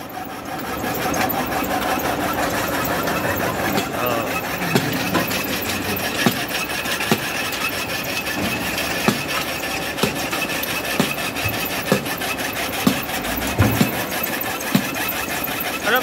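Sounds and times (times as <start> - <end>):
conveyor belt scraping rattle: 0.0 - 16.0.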